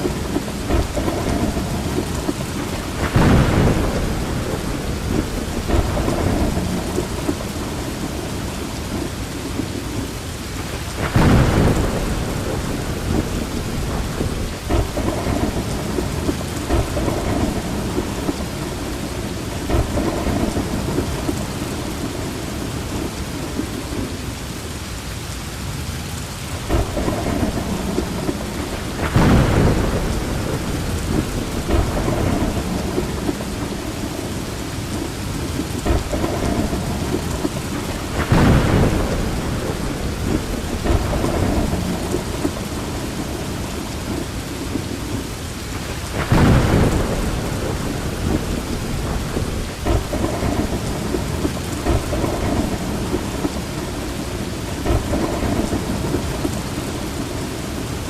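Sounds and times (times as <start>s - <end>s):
thunder: 0.0s - 24.2s, 26.6s - 58.0s
steady rain: 0.0s - 58.0s.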